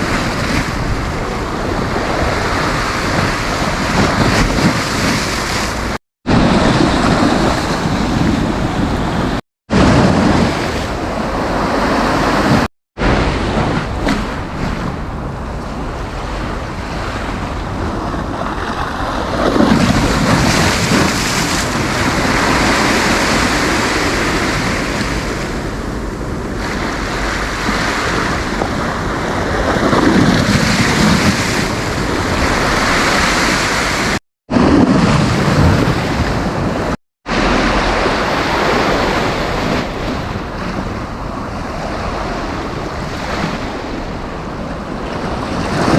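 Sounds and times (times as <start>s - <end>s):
sea surf breaking on beach: 0.0s - 45.9s
wind buffeting microphone: 0.0s - 45.9s.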